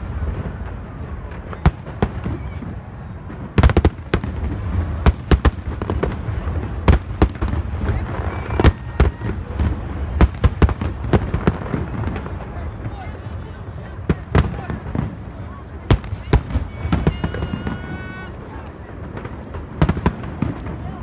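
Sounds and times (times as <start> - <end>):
fireworks bursting bangs: 0.0 - 21.0.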